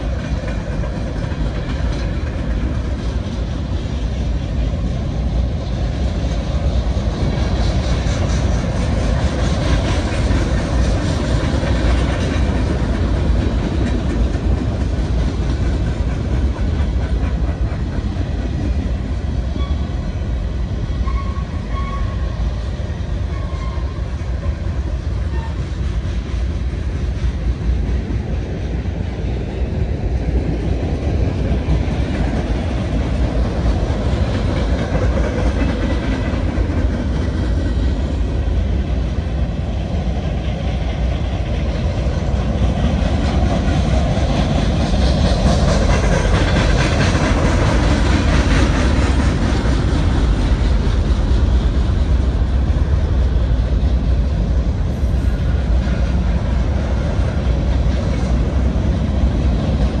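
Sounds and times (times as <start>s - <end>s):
freight train cars rolling: 0.0s - 60.0s.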